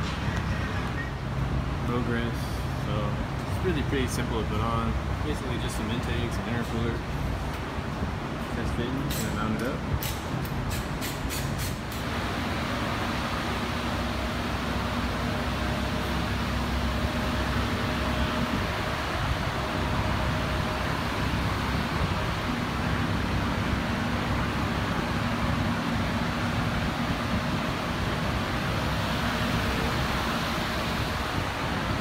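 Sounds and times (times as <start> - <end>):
fan or motor running: 0.0 - 32.0.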